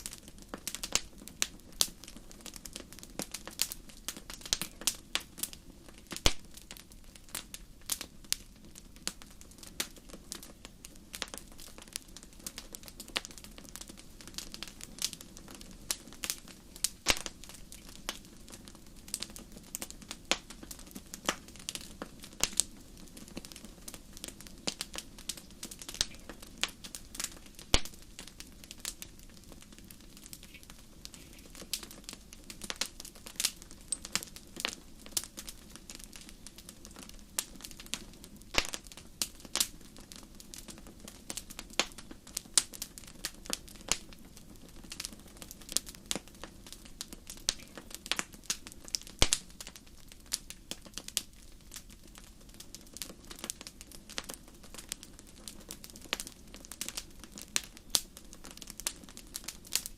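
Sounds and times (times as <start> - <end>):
rumble of flame: 0.0 - 59.9
wood fire crackling and popping: 0.0 - 59.9.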